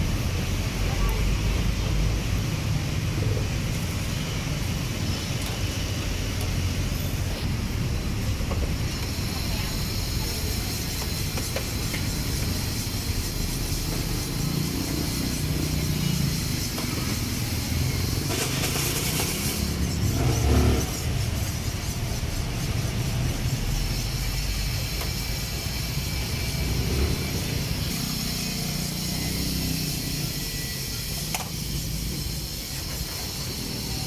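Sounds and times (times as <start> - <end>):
traffic passing: 0.0 - 34.0.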